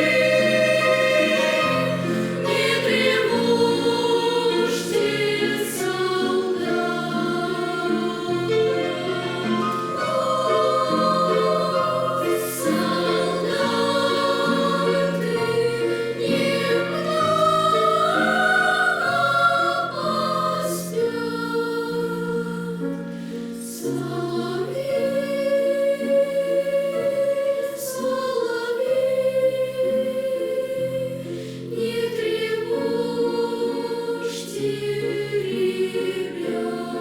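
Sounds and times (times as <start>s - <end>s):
children's choir singing: 0.0s - 37.0s.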